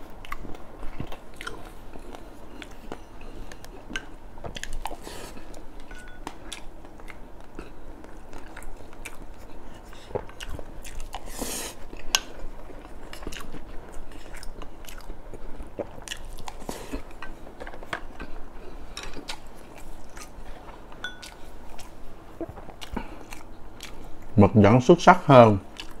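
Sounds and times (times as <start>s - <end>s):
person chewing food: 0.0s - 24.4s, 25.7s - 26.0s.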